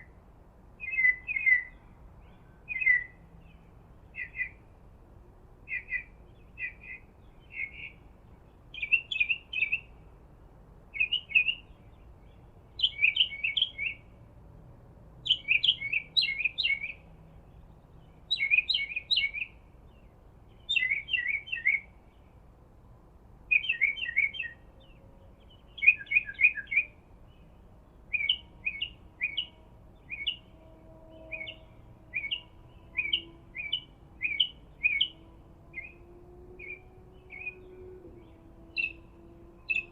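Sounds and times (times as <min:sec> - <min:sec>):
bird chirping: 0:00.8 - 0:04.7, 0:05.6 - 0:10.0, 0:10.9 - 0:14.2, 0:15.2 - 0:22.4, 0:23.5 - 0:39.9.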